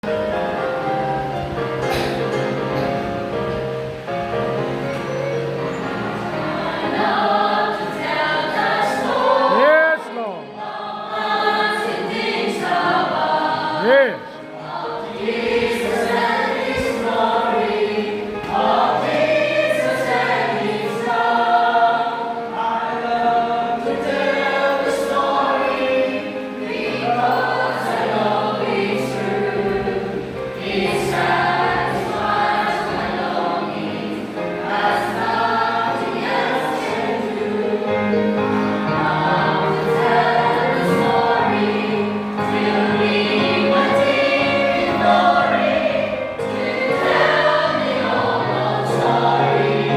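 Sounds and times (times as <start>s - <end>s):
choir singing long notes: 0.0s - 49.9s.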